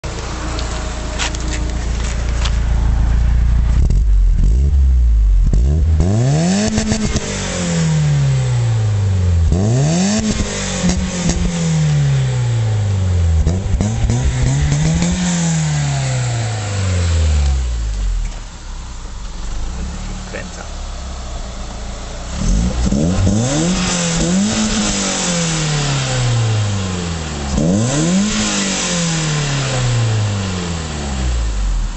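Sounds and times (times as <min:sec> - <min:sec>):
car engine idling and revving: 0:00.0 - 0:31.9.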